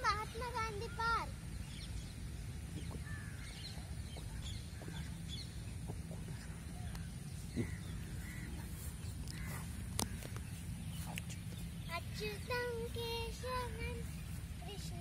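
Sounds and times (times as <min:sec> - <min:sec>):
birds chirping: 0:00.0 - 0:15.0
low steady rumble: 0:00.0 - 0:15.0.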